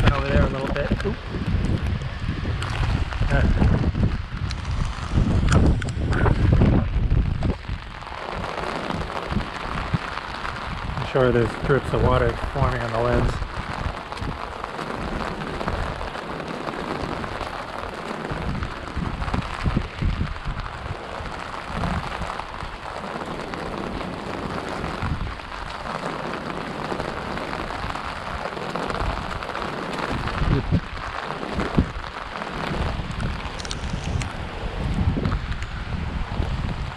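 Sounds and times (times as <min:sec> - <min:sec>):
heavy rain downpour: 0:00.0 - 0:36.9
wind gusts buffeting microphone: 0:00.0 - 0:36.9.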